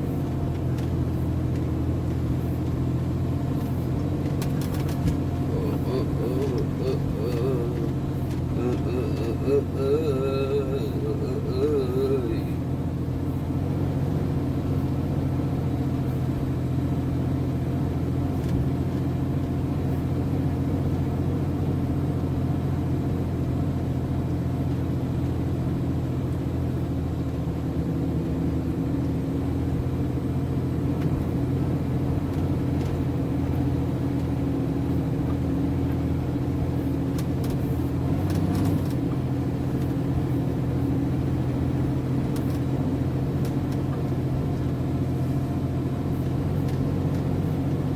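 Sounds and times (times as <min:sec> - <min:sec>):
truck diesel engine drone: 0:00.0 - 0:47.9.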